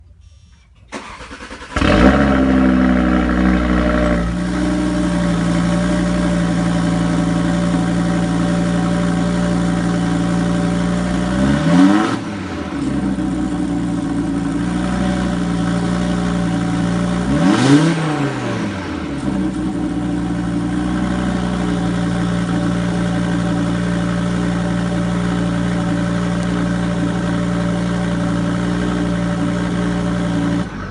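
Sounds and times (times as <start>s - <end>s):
car engine starting and idling: 0.0s - 30.9s
engine revs blipped: 0.3s - 30.9s.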